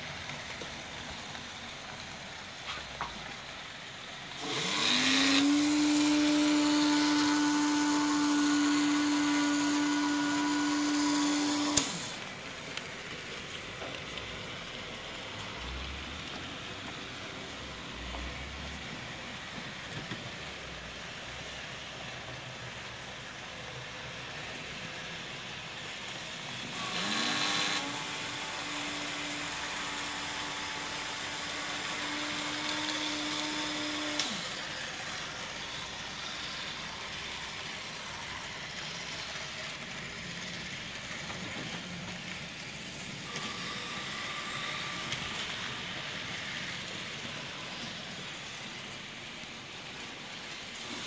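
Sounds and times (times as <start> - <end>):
model train wheels rolling: 0.0 - 51.0
small motor whine: 2.5 - 51.0.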